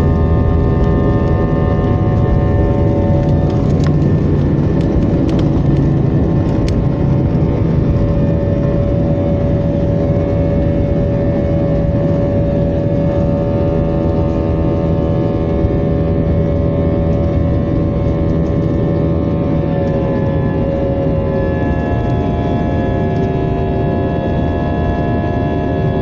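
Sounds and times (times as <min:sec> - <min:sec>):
jet engine rumble and whine: 0:00.0 - 0:26.0.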